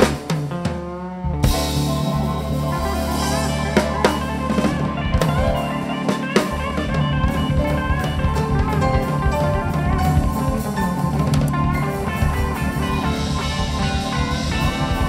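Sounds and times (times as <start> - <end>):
band music: 0.0 - 15.0
drum kit beat: 0.0 - 15.0
guitar: 0.0 - 15.0.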